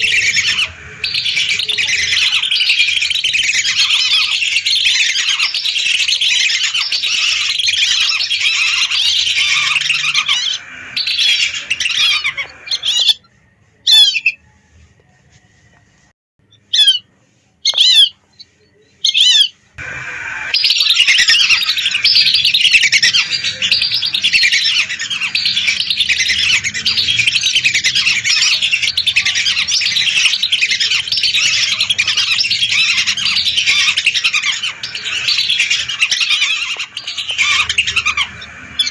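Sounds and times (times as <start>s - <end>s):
ducks whistling in chorus: 0.0s - 14.5s, 16.6s - 17.0s, 17.6s - 18.2s, 19.0s - 38.9s.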